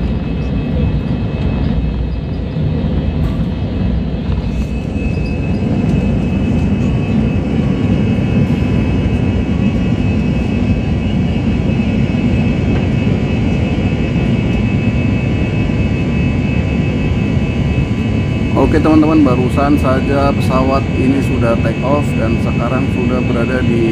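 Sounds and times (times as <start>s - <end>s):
jet engines roaring with whine: 0.0s - 23.9s.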